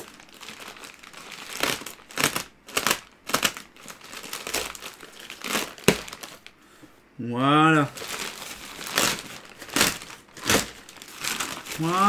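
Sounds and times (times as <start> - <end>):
plastic bag crinkling and rustling: 0.0 - 6.6, 7.8 - 12.0.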